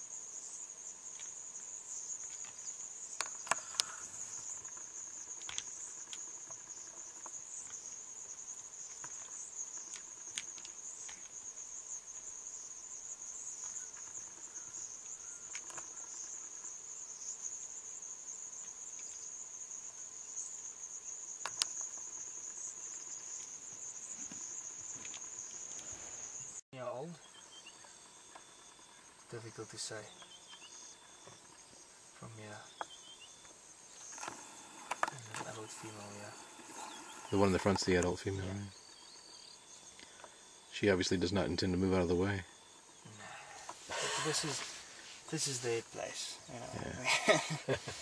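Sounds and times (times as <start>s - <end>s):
crickets chirring: 0.0s - 48.0s.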